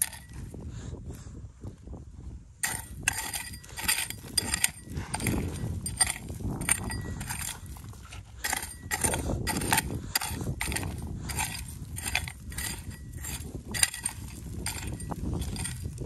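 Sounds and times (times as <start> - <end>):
hoe chopping into gravelly soil: 2.6 - 16.0.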